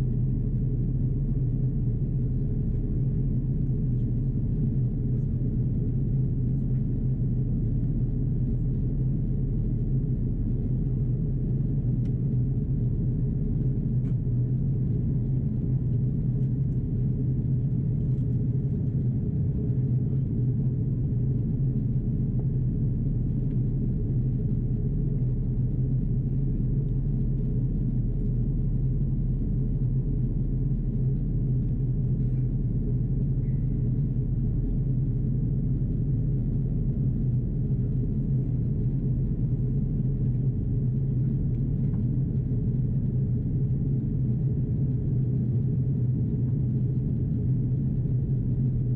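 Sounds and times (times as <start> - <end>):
airplane engine hum in cabin: 0.0 - 48.9.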